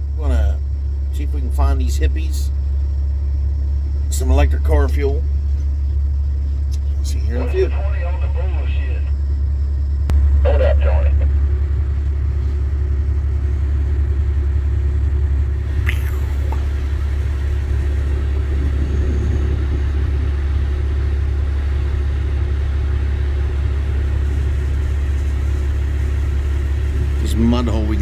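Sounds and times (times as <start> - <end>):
vehicle engine droning: 0.0 - 28.0.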